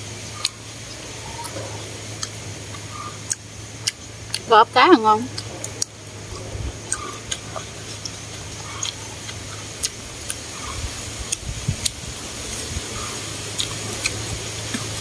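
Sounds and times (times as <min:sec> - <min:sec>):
low steady hum: 0:00.0 - 0:15.0
chewing: 0:00.4 - 0:04.5, 0:05.2 - 0:15.0.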